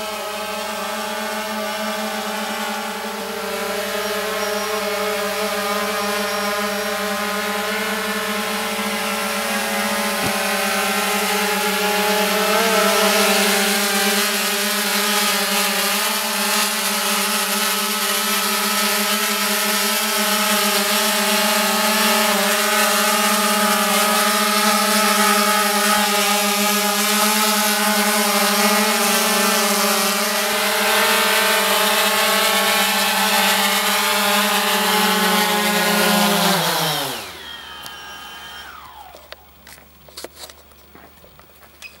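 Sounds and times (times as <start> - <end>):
drone propellers buzzing: 0.0 - 40.3.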